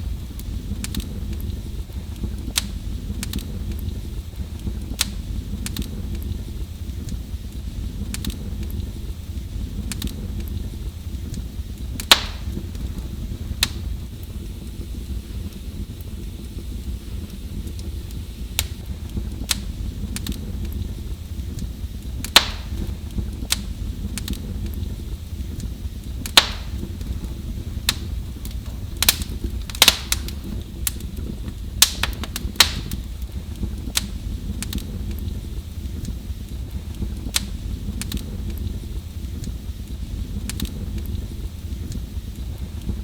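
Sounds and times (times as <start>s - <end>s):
fire pops and snaps: 0.0s - 43.0s
low rumble of burning: 0.0s - 43.0s
wood fire crackling: 0.0s - 43.0s.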